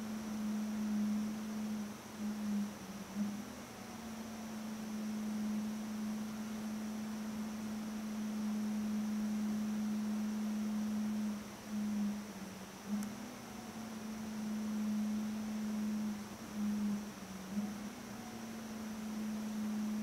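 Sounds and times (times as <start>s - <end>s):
faint high whine: 0.0s - 20.0s
steady low hum: 0.0s - 20.0s.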